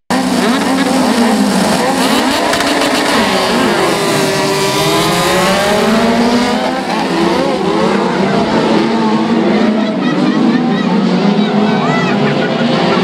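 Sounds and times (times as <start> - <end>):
race car engines revving: 0.1 - 13.0.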